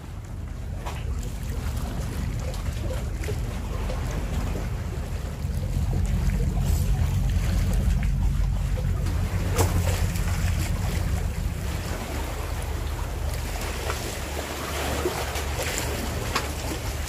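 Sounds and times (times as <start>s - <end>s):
waves washing against concrete: 0.0s - 17.0s
wind buffeting microphone: 0.0s - 17.0s.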